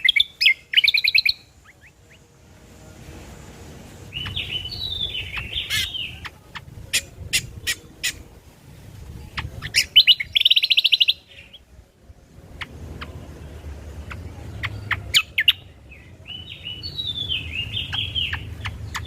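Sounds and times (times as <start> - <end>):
bird warbling and trilling: 0.0 - 2.3, 4.0 - 11.7, 12.4 - 19.0.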